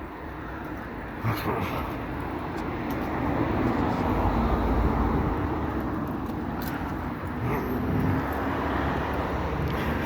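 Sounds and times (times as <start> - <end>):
car passing: 0.0 - 10.0.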